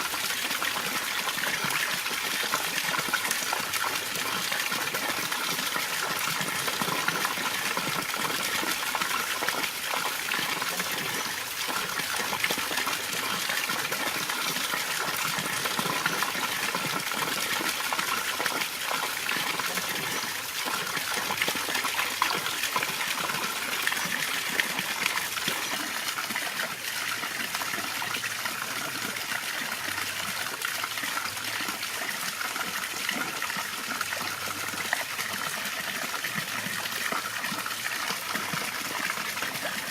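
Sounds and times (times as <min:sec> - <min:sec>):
water pouring down waterfall: 0:00.0 - 0:39.9.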